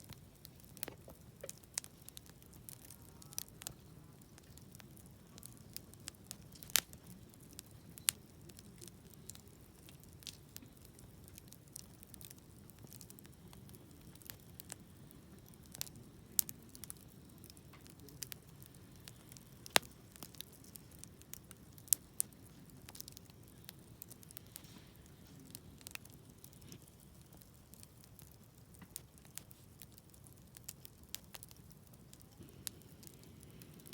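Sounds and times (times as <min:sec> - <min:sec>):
campfire crackling and popping: 0:00.0 - 0:33.9
low steady fire rush: 0:00.0 - 0:33.9.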